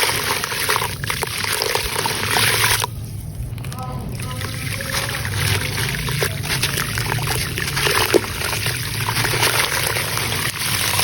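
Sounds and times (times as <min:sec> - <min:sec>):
sand crumbling in water crackling: 0:00.0 - 0:11.0.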